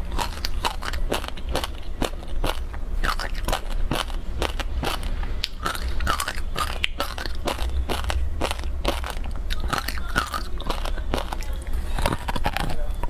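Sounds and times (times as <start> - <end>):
ice crunching being chewed: 0.0 - 13.0
steady low hum: 0.0 - 13.0.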